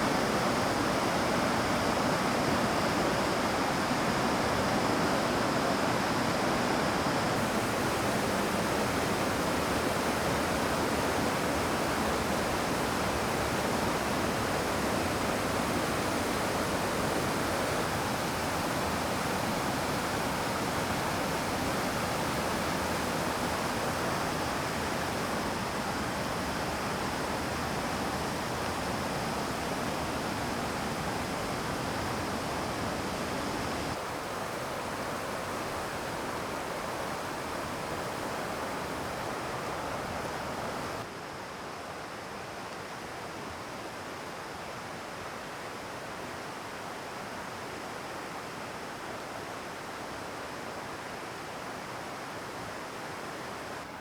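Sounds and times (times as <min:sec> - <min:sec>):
stream cascade water rushing: 0:00.0 - 0:54.0.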